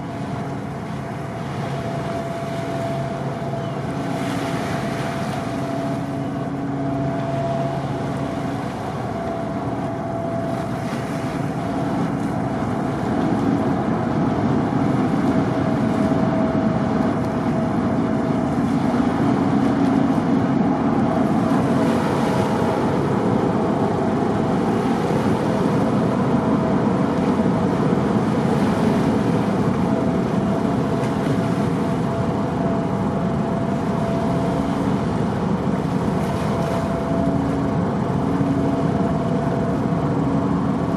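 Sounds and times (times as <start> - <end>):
ferry engines droning: 0.0 - 40.9
wind on microphone: 0.0 - 40.9.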